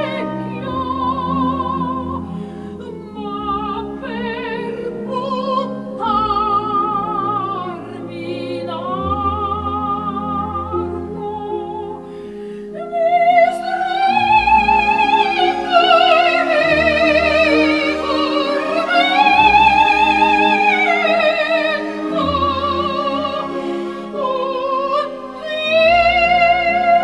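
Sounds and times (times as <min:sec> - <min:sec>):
slow music with vibrato melody: 0:00.0 - 0:27.0.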